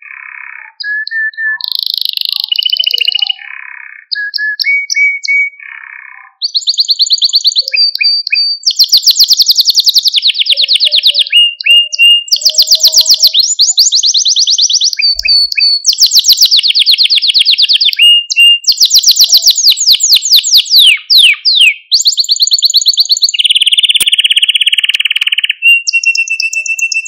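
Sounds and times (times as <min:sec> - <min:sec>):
canary singing rapid trills: 0:00.0 - 0:27.0.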